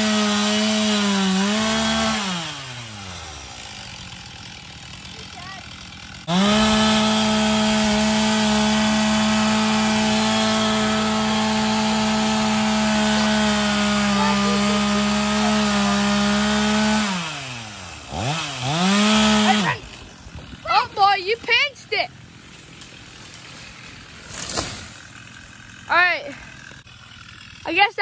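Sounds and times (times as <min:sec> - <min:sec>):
chainsaw cutting tree: 0:00.0 - 0:28.0.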